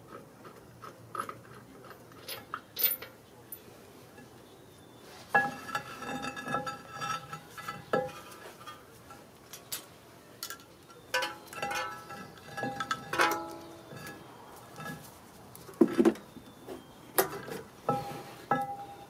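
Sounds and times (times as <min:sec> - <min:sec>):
metal clanks and clinks: 0:00.8 - 0:04.3, 0:05.4 - 0:16.6, 0:17.2 - 0:19.0.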